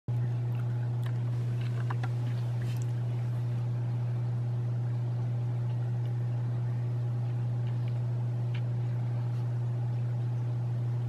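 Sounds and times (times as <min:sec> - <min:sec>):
low engine drone: 0:00.1 - 0:11.0.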